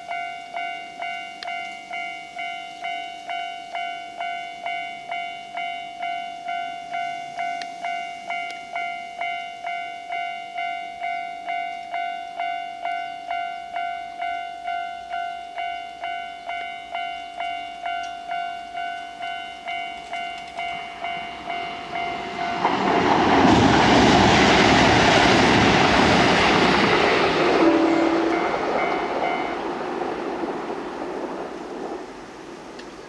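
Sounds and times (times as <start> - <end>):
level crossing warning bell: 0.0 - 31.9
electric train passing at speed: 0.0 - 33.0.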